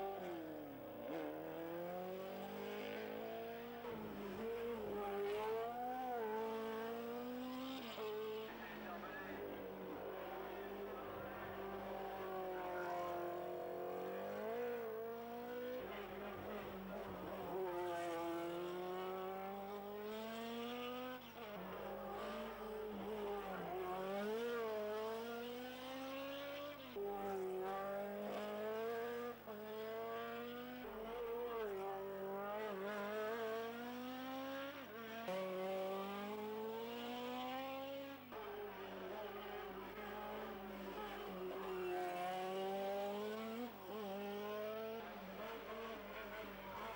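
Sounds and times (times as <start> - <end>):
race car engines revving: 0.0 - 46.9.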